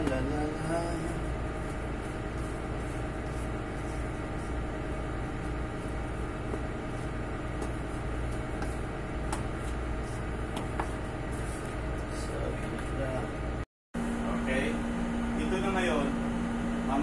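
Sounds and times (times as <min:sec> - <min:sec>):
ship machinery low rumble: 0:00.0 - 0:17.0
steady machinery hums: 0:00.0 - 0:17.0.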